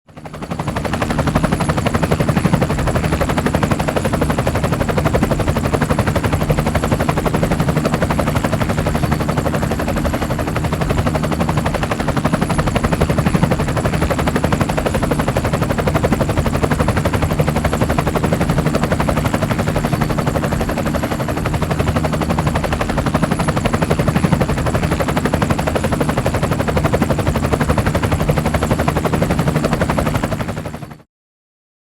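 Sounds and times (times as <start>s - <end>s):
helicopter rotor blades chopping: 0.1s - 31.0s.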